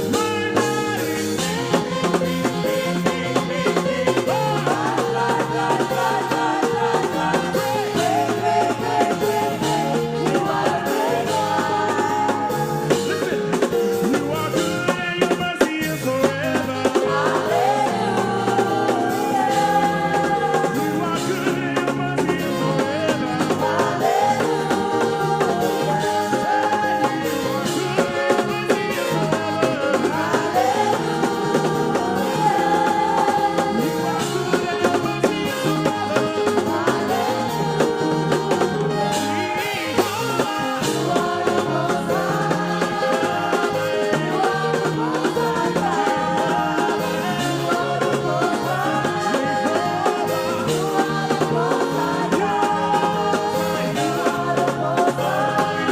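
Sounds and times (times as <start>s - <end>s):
gospel singing with instrumental backing: 0.0s - 55.9s.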